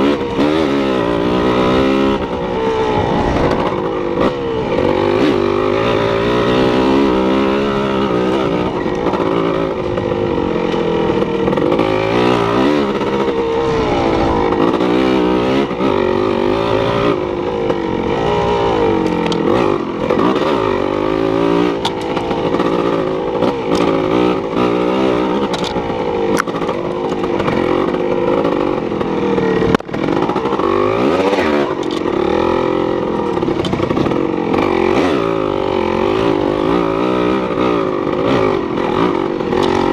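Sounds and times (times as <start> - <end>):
engine revving up and down: 0.0 - 26.7, 29.6 - 39.9.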